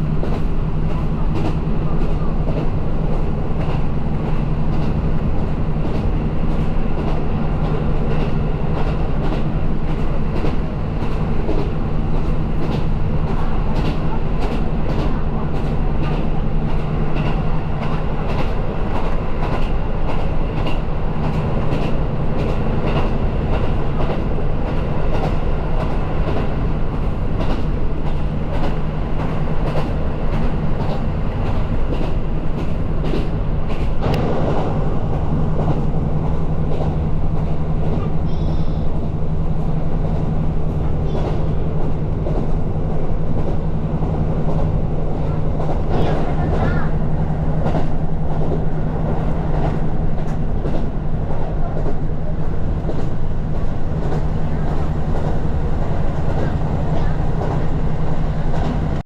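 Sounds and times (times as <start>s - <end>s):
train low drone: 0.0s - 59.0s.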